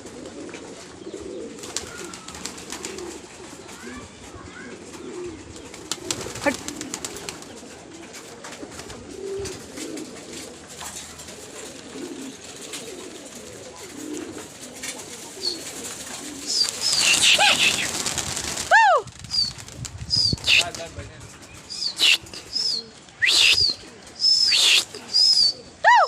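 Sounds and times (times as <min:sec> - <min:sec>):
pigeons cooing: 0:00.0 - 0:26.0
wings flapping: 0:01.4 - 0:04.4, 0:05.6 - 0:25.6.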